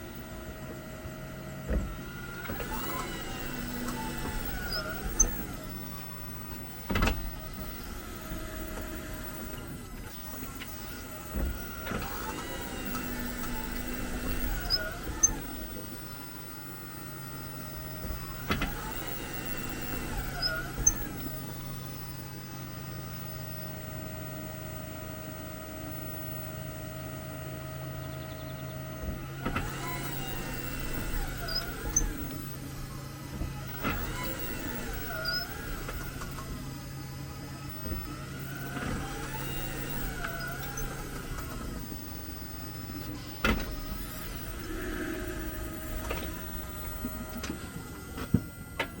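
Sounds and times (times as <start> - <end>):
steady hum: 0.0 - 49.0
wavering brake squeals: 1.5 - 24.2, 29.6 - 32.6, 33.6 - 49.0.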